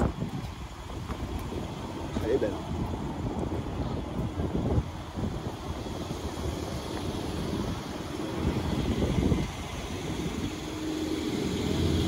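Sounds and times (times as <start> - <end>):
low rumble of vehicle engines: 0.0 - 12.0
steady engine hum: 0.0 - 12.0.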